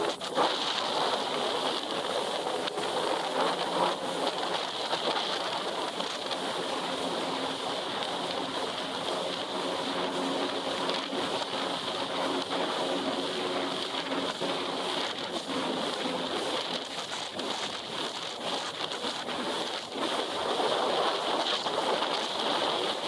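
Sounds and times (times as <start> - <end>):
wind and water spray rushing: 0.0 - 23.0.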